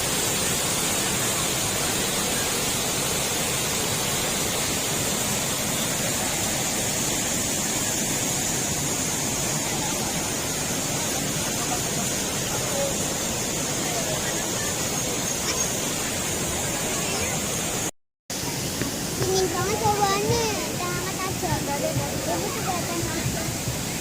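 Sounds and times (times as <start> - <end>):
waterfall pouring: 0.0 - 24.0.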